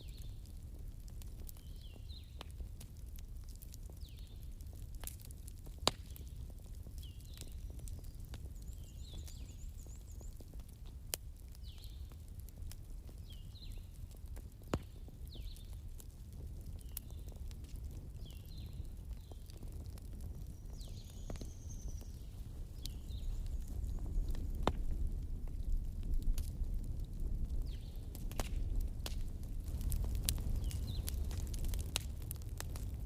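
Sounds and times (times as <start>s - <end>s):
bonfire crackling and popping: 0.0s - 33.0s.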